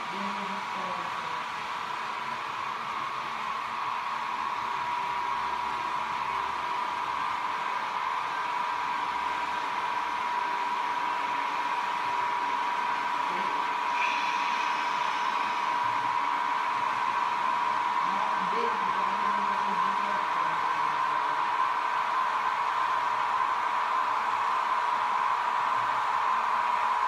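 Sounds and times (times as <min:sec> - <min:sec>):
model train motor whine: 0:02.0 - 0:27.0.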